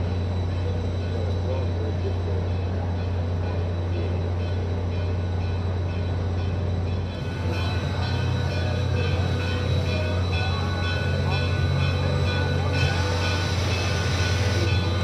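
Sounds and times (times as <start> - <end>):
steam locomotive moving slowly: 0.0 - 15.0.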